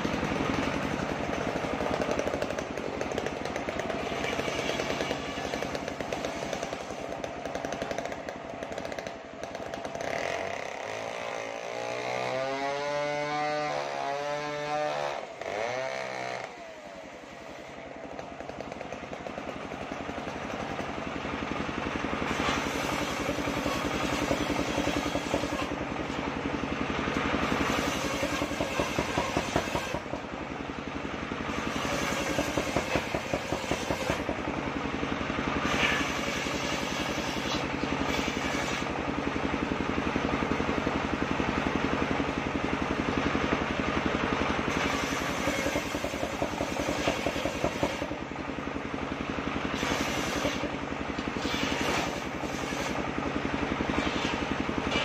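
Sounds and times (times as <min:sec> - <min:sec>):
circular saw machine running: 0:00.0 - 0:55.0.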